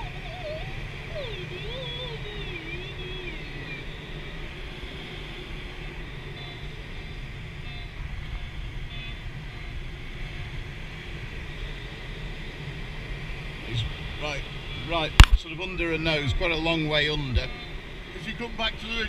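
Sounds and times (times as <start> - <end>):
rush of air over glider: 0.0 - 19.0
variometer wavering tone: 0.0 - 19.0.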